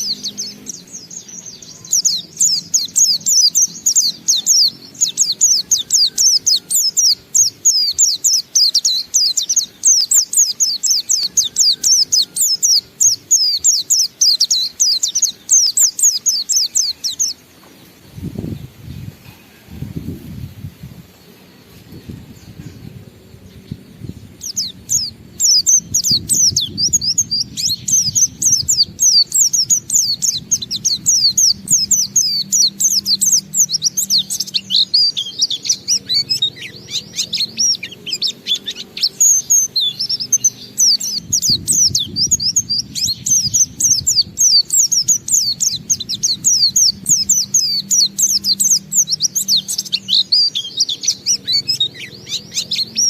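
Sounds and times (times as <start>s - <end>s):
bird singing fast chirps: 0.0s - 19.2s, 20.0s - 53.0s.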